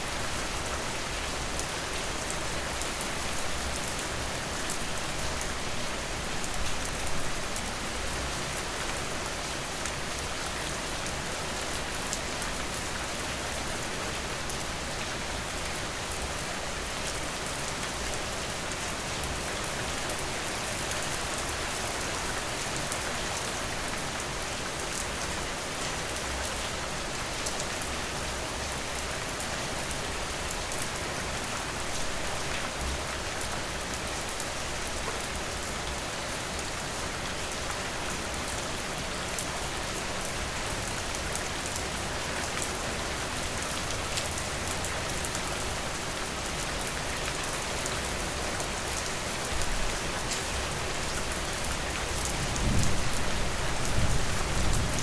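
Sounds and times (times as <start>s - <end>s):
rain falling on a porch: 0.0s - 55.0s.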